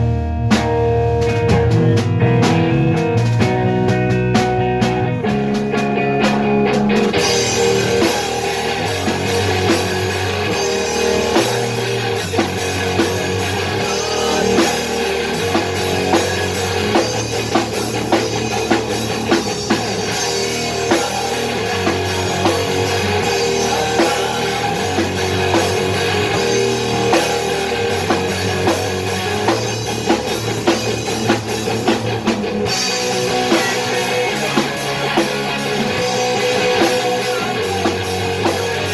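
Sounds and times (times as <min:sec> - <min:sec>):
bass line: 0:00.0 - 0:38.9
drum kit beat: 0:00.0 - 0:38.9
guitar: 0:00.0 - 0:38.9.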